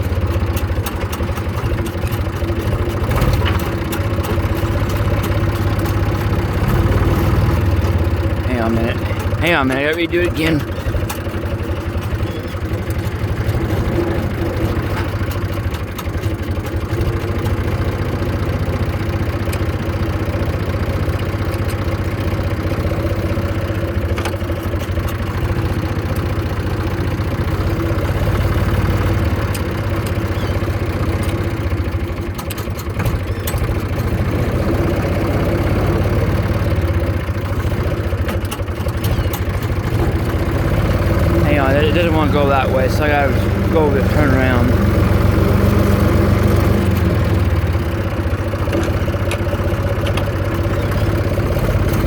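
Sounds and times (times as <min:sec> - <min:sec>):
faint clicks and rattles: 0:00.0 - 0:52.0
tractor diesel engine running: 0:00.0 - 0:52.0.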